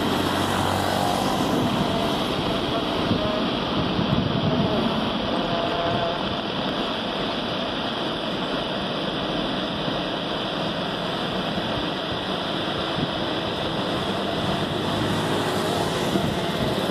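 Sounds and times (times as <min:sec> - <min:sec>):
jet engines at takeoff thrust: 0:00.0 - 0:16.9.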